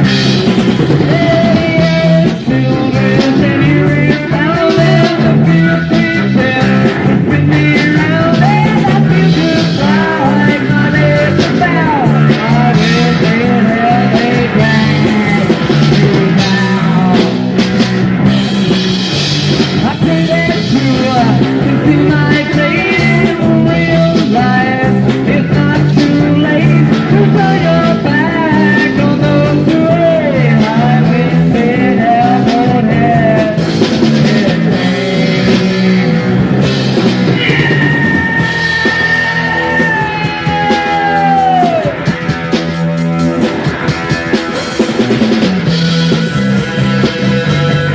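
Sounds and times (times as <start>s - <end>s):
bass guitar: 0.0s - 47.9s
drum kit: 0.0s - 47.9s
electric guitar: 0.0s - 47.9s
rock band playing: 0.0s - 47.9s.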